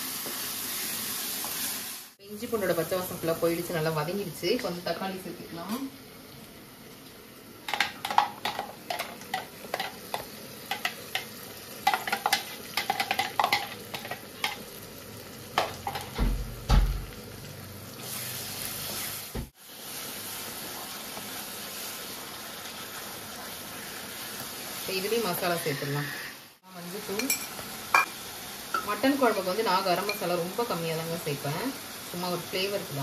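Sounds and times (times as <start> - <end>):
puree sizzling in hot oil: 0.0 - 33.0.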